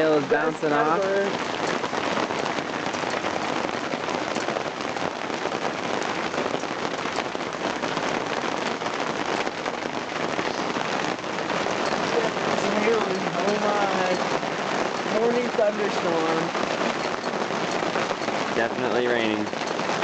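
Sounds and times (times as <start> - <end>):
hailstones clicking on surfaces: 0.0 - 20.0
heavy rain pattering: 0.0 - 20.0.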